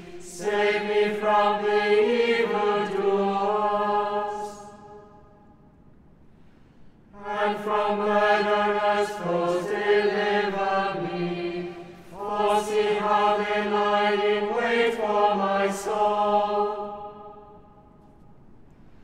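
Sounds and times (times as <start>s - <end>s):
voices chanting with echo: 0.0s - 5.3s, 7.2s - 18.0s.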